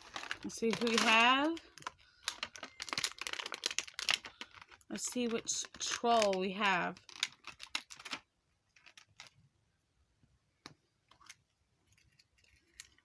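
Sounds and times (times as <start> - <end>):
plastic packaging clicks and crinkles: 0.0 - 9.4, 11.1 - 13.0.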